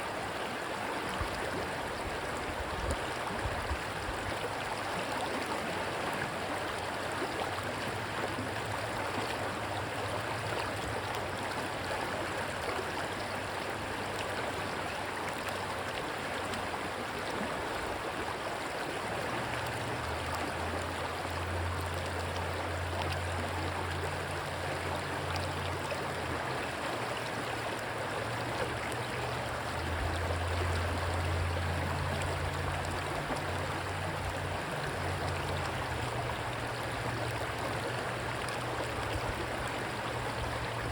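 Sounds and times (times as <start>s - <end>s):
rushing stream water: 0.0s - 40.9s.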